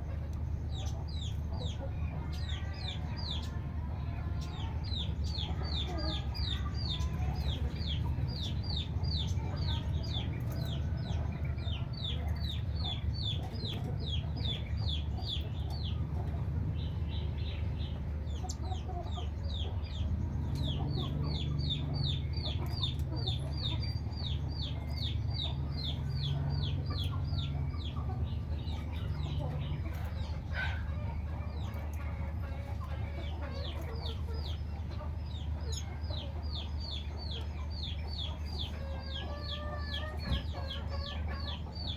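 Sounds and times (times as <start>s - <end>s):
steady low hum: 0.0s - 41.9s
small bird chirping: 4.3s - 41.9s.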